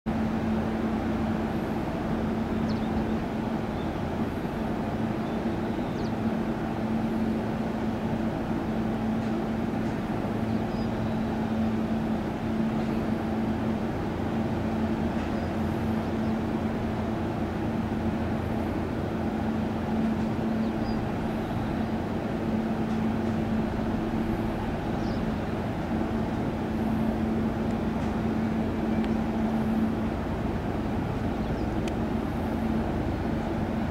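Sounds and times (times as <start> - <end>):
train equipment humming: 0.1 - 33.9.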